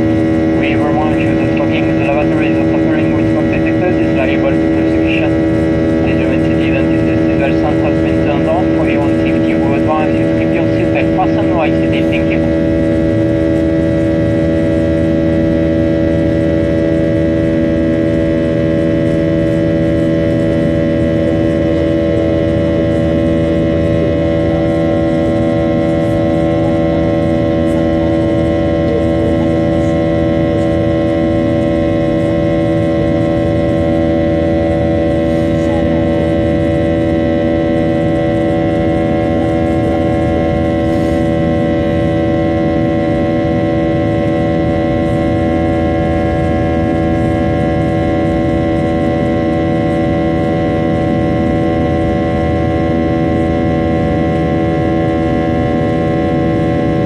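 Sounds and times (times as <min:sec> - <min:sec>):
jet engines droning in cabin: 0:00.0 - 0:57.0.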